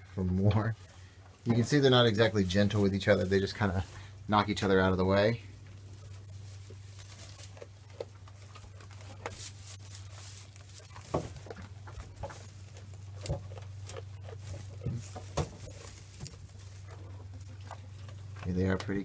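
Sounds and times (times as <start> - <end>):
steady low hum: 0.0 - 19.0
hay rustling: 0.3 - 19.0.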